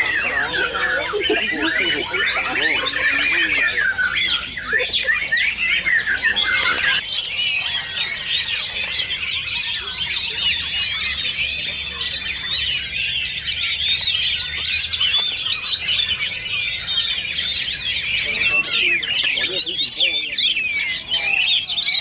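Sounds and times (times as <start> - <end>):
songbirds singing and chirping: 0.0 - 22.0.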